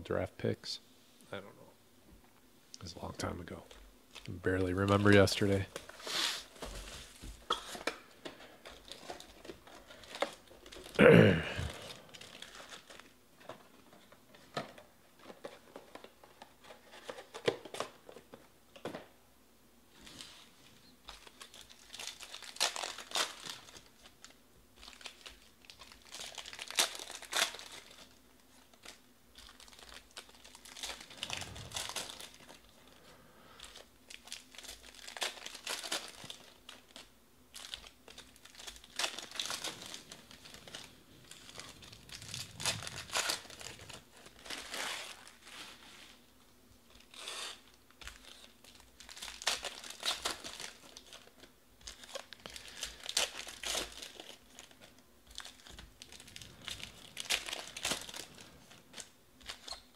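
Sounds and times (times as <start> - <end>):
foil wrappers crinkling and tearing: 4.1 - 14.6, 20.0 - 46.3, 46.9 - 59.9.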